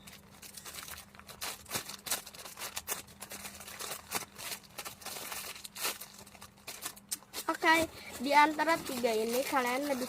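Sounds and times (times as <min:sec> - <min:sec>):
rustling of squishy toys: 0:00.0 - 0:10.0.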